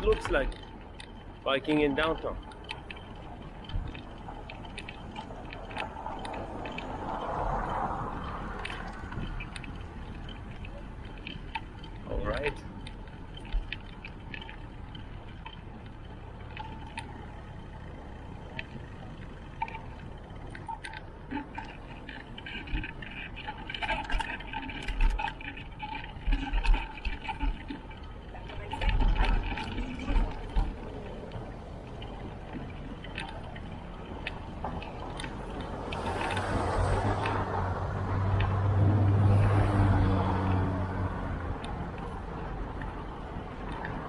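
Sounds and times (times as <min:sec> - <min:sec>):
bicycle rattling and clicking: 0:00.0 - 0:44.0
motor vehicle passing: 0:00.0 - 0:44.0.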